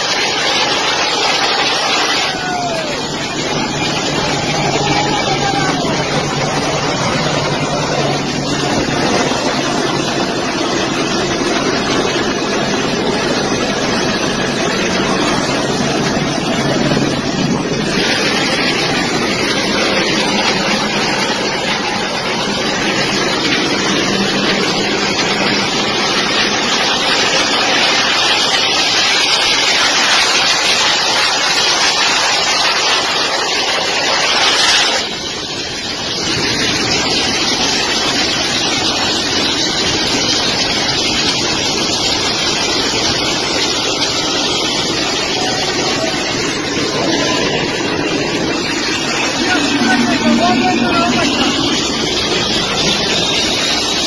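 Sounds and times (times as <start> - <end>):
aircraft engines and wind rushing: 0.0 - 54.0.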